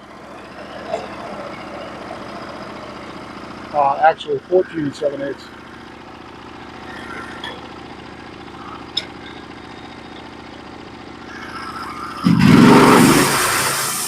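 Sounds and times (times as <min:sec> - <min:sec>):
sawmill engine idling and revving: 0:00.0 - 0:14.0.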